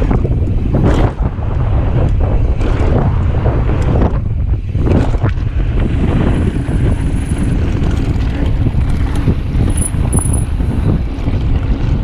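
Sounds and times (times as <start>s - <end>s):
mountain bike rolling on dirt: 0.0s - 12.0s
wind buffeting microphone: 0.0s - 12.0s.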